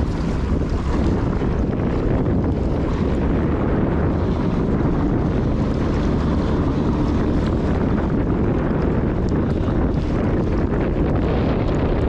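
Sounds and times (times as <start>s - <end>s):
water lapping against wall: 0.0s - 12.0s
wind buffeting microphone: 0.0s - 12.0s.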